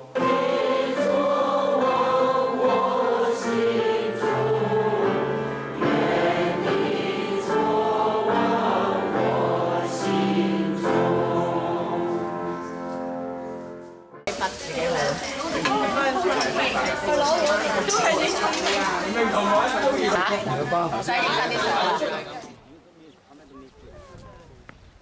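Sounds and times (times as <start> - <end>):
choir singing a hymn: 0.0 - 13.6, 14.3 - 22.6.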